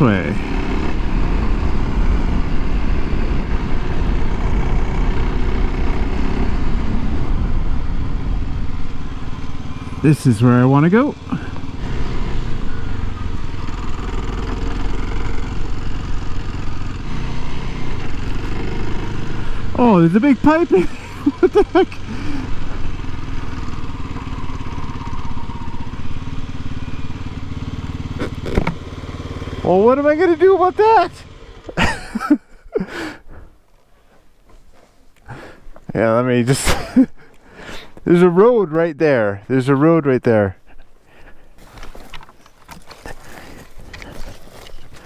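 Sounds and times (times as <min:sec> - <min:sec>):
motorcycle engine running: 0:00.0 - 0:32.5, 0:41.2 - 0:45.0.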